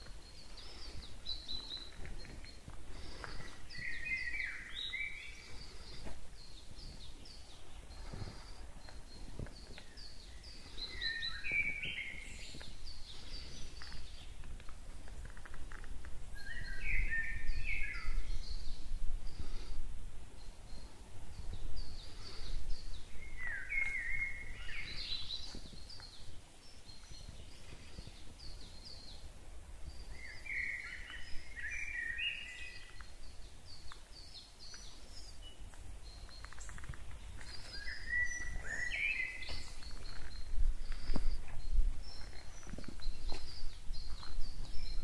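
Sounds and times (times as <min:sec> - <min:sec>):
bird song phrase: 0:00.0 - 0:14.4, 0:16.3 - 0:19.7, 0:20.3 - 0:45.0
birds chirping: 0:00.0 - 0:45.0.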